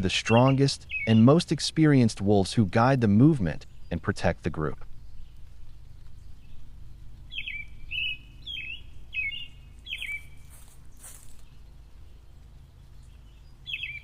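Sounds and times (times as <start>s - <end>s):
birds chirping: 0.0s - 14.0s
low steady background rumble: 0.0s - 14.0s.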